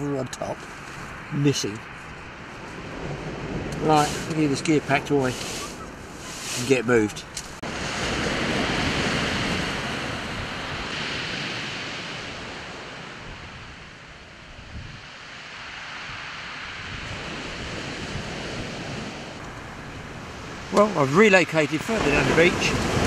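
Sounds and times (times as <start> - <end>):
wind on microphone: 0.0 - 21.1, 21.8 - 23.0
waves washing on shingle: 2.6 - 14.0, 15.5 - 23.0.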